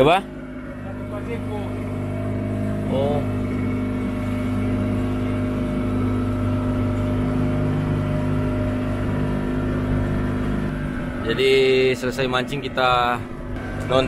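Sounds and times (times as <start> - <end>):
outboard motor hum: 0.0 - 14.0
water washing along hull: 0.0 - 14.0.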